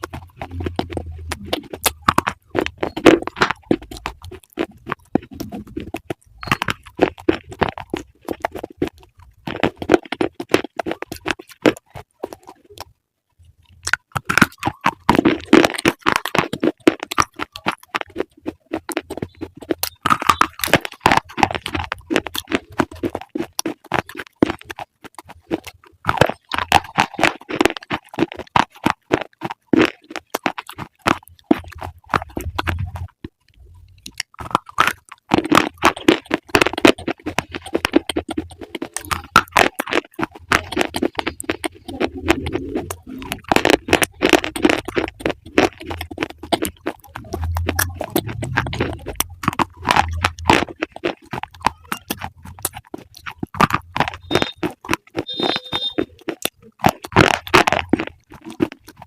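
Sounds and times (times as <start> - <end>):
crunching and chewing crisp food: 0.0 - 59.0.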